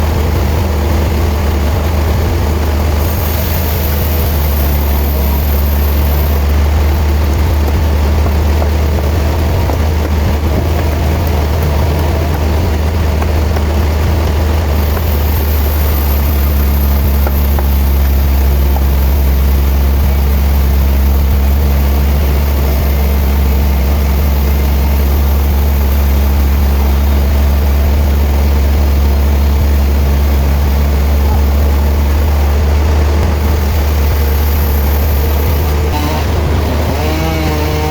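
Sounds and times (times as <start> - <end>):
sawmill machinery drone: 0.0 - 37.9.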